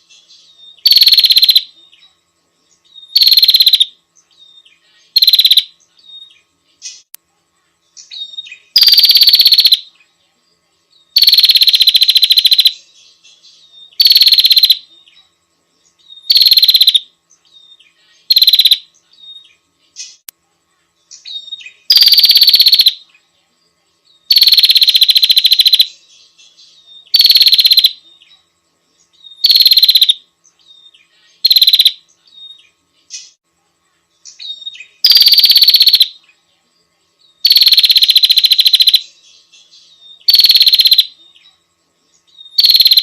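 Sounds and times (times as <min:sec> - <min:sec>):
bird buzzy trills: 0:00.0 - 0:07.1, 0:07.7 - 0:43.0.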